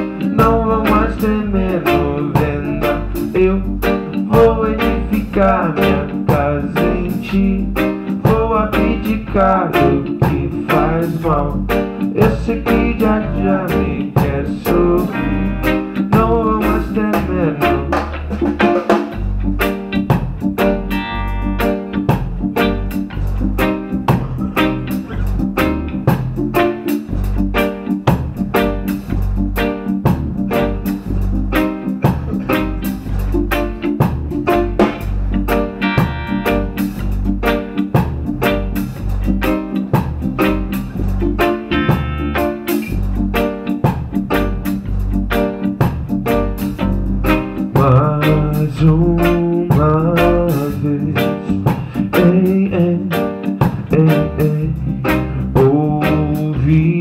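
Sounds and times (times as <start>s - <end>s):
drums with a steady beat: 0.0s - 57.0s
electric guitar strumming: 0.0s - 57.0s.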